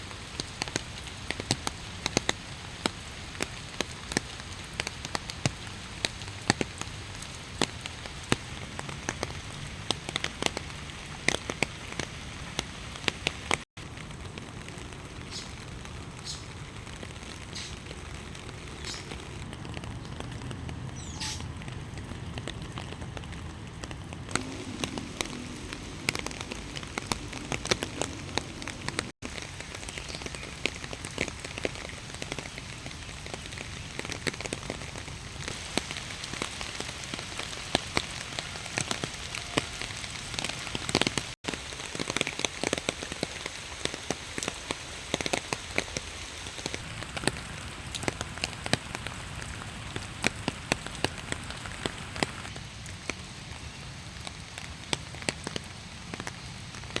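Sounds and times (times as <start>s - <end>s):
rain hiss: 0.0s - 57.0s
raindrops ticking on surface: 0.0s - 57.0s.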